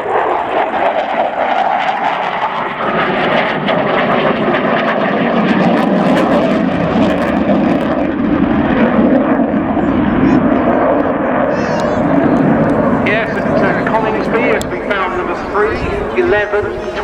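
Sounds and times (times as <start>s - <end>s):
jet aircraft passing: 0.0s - 17.0s.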